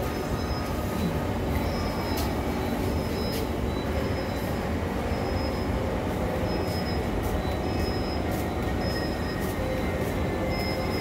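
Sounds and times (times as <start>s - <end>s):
station ambience: 0.0s - 11.0s
train equipment hum: 0.0s - 11.0s.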